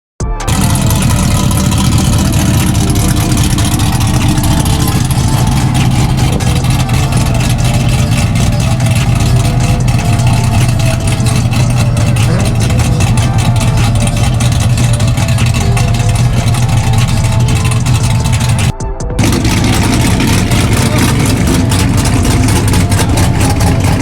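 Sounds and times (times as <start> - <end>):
car engine idling loud exhaust: 0.5 - 24.0.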